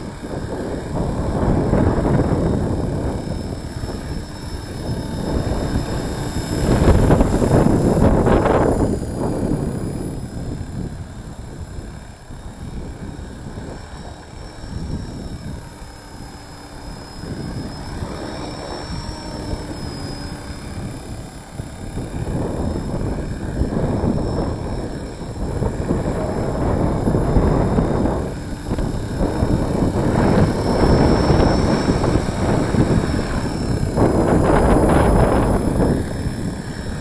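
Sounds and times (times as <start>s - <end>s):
rc helicopter whine: 0.0s - 37.0s
wind buffeting microphone: 0.0s - 37.0s.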